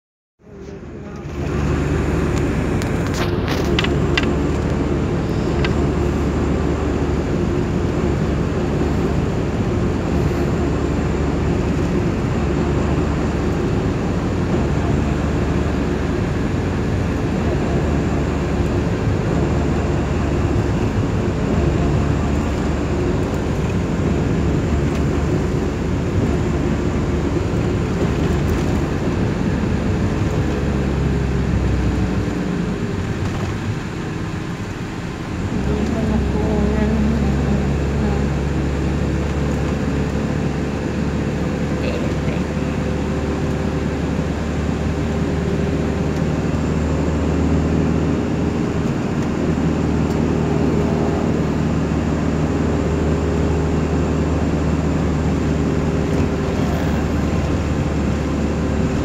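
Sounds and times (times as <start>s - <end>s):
vehicle road and engine noise: 0.0s - 59.0s.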